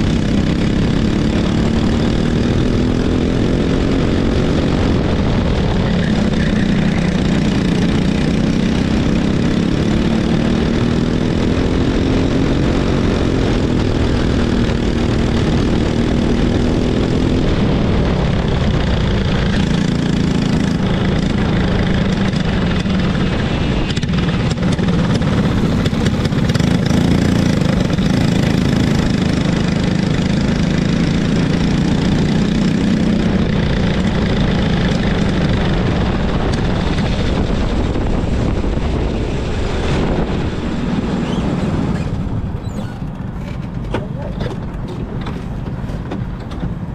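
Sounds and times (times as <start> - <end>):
racing kart engine running: 0.0 - 46.9.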